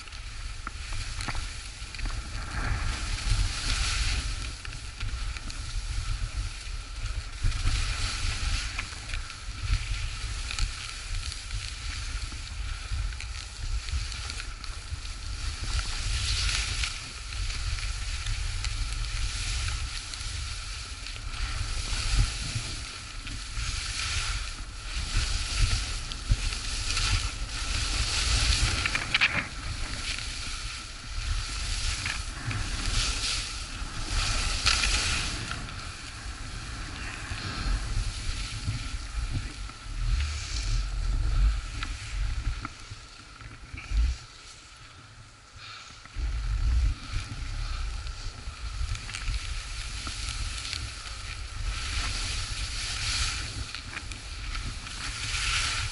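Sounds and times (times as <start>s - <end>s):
skis scraping over snow: 0.0s - 55.9s
wind rumble on microphone: 0.0s - 55.9s.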